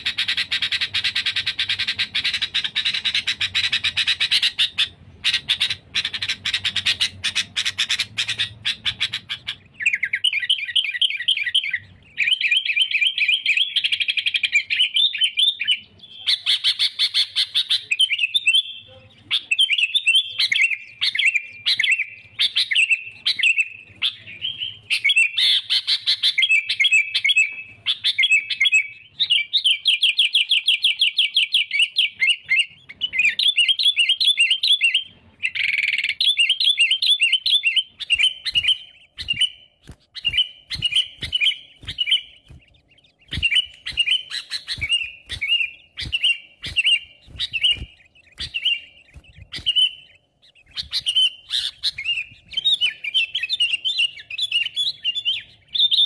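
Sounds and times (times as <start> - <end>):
bulbul chattering trills: 0.0 - 56.0.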